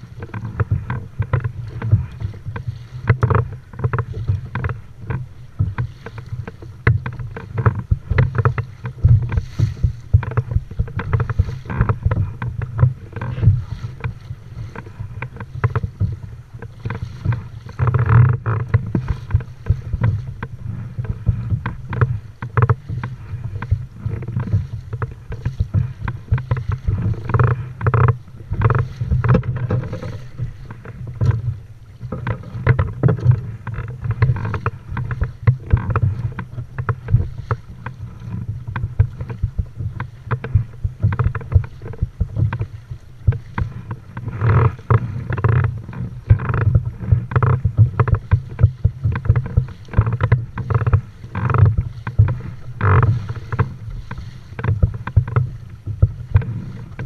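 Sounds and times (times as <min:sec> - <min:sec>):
water slapping against kayak hull: 0:00.0 - 0:57.0
wind buffeting microphone: 0:00.0 - 0:57.0.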